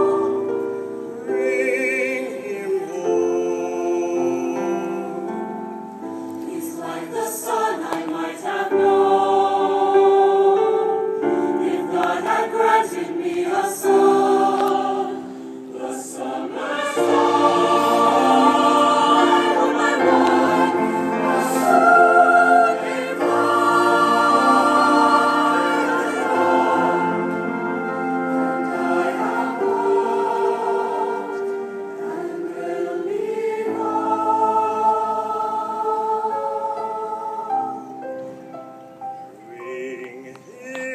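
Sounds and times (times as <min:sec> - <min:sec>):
choir singing in harmony: 0:00.0 - 0:40.9.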